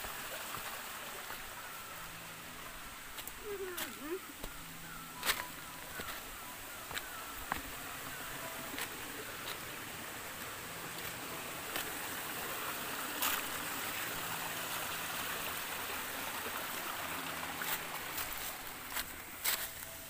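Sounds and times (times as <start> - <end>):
stream splashing over boulders: 0.0 - 19.8.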